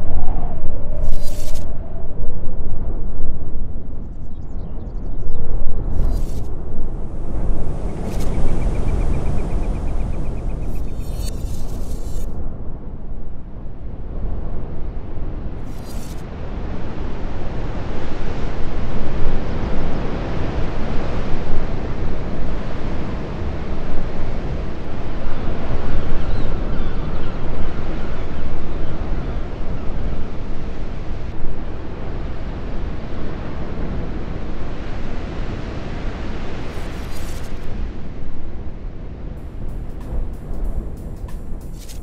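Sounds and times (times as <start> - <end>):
rushing wind and water: 0.0 - 42.0.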